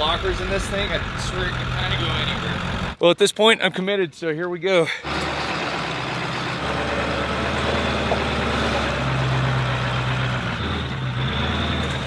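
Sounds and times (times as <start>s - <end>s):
diesel truck engine running: 0.0s - 3.0s, 5.0s - 12.0s.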